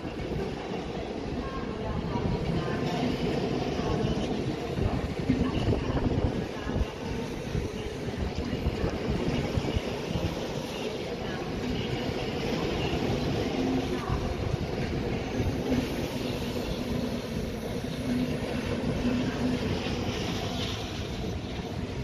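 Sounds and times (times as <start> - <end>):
electric locomotive low rumble: 0.0 - 22.0.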